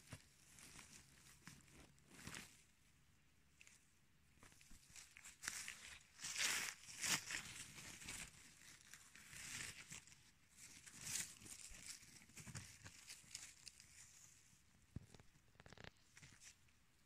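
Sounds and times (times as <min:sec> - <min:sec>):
faint rustling of plants: 0:00.0 - 0:17.0
soft crackles: 0:00.0 - 0:17.0.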